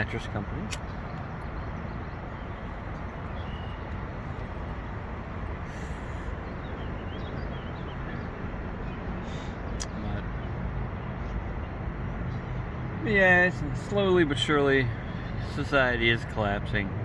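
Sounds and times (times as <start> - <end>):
low rumbling outdoor background: 0.0 - 17.0.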